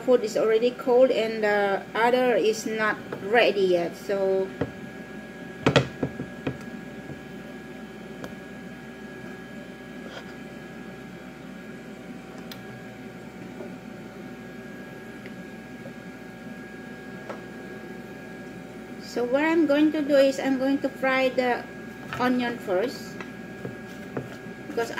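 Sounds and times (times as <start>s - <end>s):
faint steady whine: 0.0s - 24.9s.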